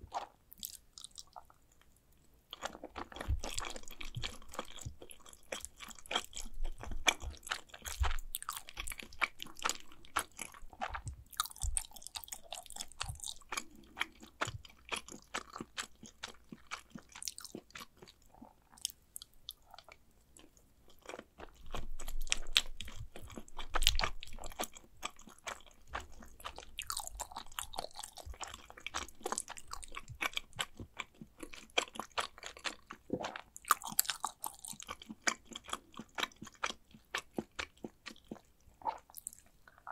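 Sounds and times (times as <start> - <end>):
chewing with mouth clicks: 0.1 - 1.9, 2.5 - 39.9.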